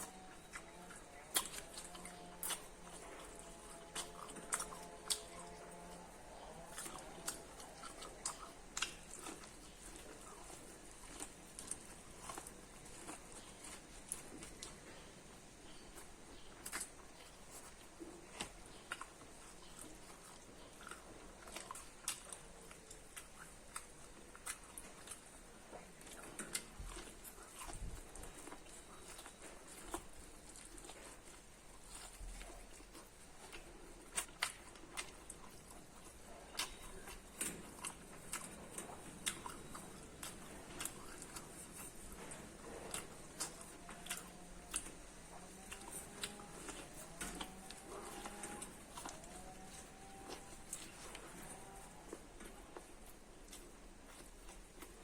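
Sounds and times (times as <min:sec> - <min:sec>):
crunchy chewing of corn: 0:00.0 - 0:55.0.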